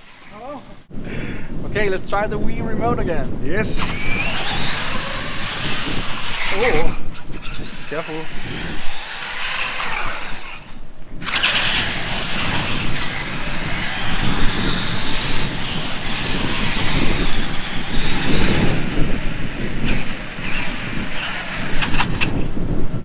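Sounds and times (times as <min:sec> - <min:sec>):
toy truck motor whine: 0:00.0 - 0:00.9, 0:03.7 - 0:22.7.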